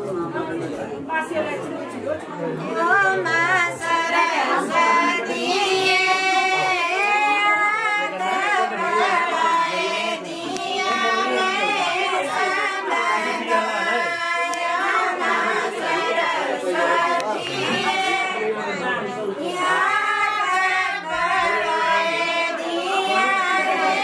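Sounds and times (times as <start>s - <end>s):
group of women singing: 2.6s - 24.0s.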